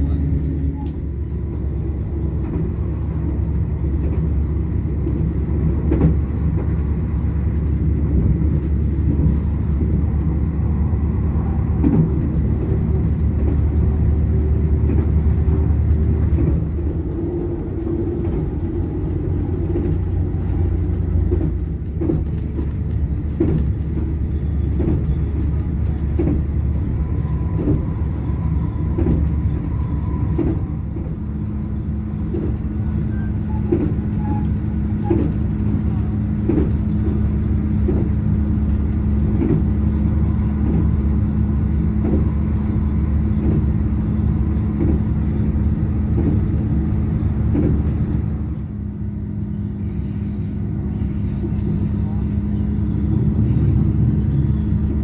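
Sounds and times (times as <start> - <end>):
vehicle rumbling: 0.0 - 55.0.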